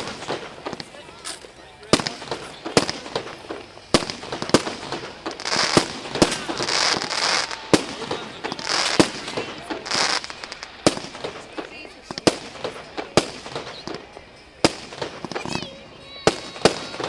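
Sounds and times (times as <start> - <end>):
crackling firework hiss: 0.0 - 17.0
firework shells bursting: 0.0 - 17.0.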